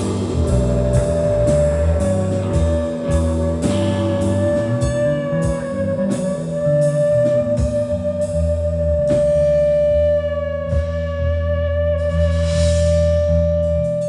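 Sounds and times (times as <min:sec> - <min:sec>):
blues-rock band playing: 0:00.0 - 0:14.0
long high held note: 0:00.0 - 0:14.0.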